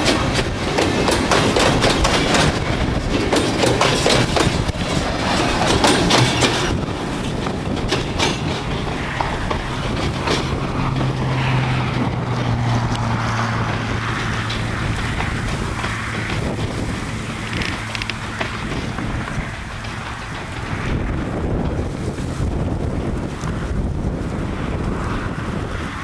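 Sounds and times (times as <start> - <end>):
train wheels clattering over rail joints: 0.0 - 24.2
train rumbling: 0.0 - 26.0.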